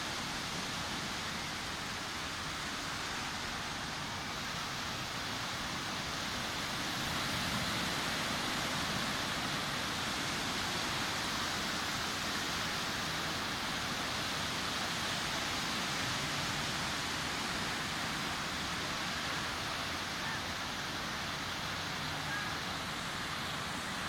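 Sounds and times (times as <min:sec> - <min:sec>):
sea surf washing onto beach: 0:00.0 - 0:24.0.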